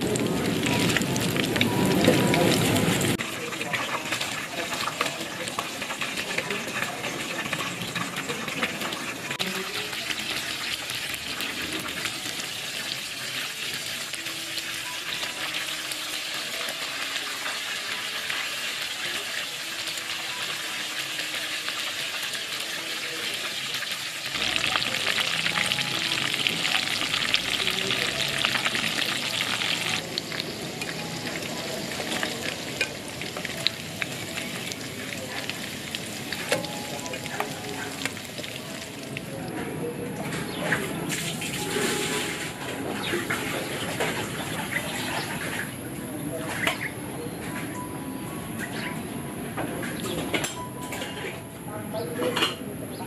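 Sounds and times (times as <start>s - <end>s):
deep-frying sizzle in oil: 0.0s - 50.8s.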